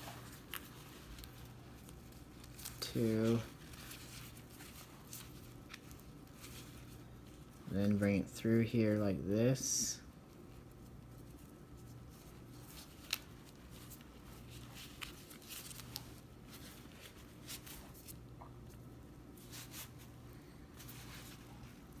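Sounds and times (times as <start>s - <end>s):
rope and fabric rustling: 0.0s - 8.2s, 10.1s - 22.0s.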